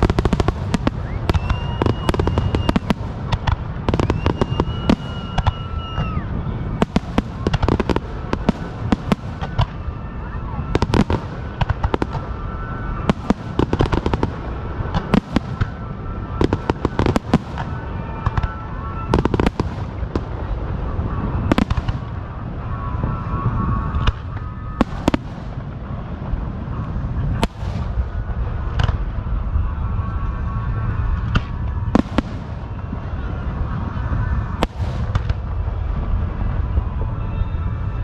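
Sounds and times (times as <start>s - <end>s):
fireworks bangs: 0.0s - 38.0s
low rumble: 0.0s - 38.0s.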